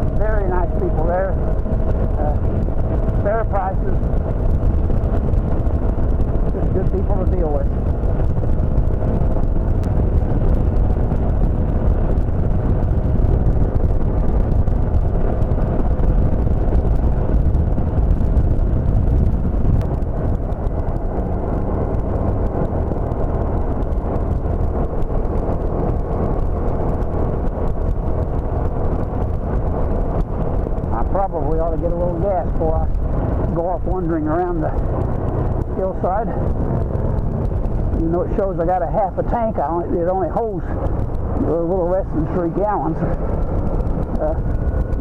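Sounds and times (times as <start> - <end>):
scooter engine running: 0.0 - 45.0
wind rushing over microphone: 0.0 - 45.0.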